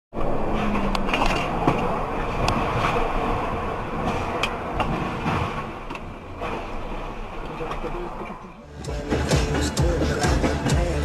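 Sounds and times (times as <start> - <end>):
traffic rumble: 0.1 - 11.0.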